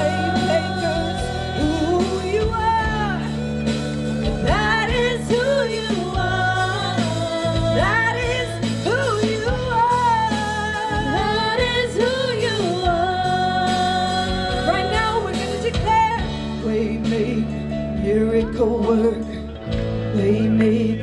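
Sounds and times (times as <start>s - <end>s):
band accompaniment: 0.0s - 21.0s
person singing melodic lines: 0.0s - 21.0s.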